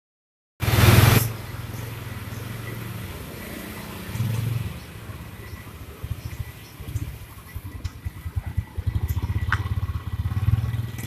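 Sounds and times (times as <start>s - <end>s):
motorcycle engine idling and revving: 0.6s - 11.0s.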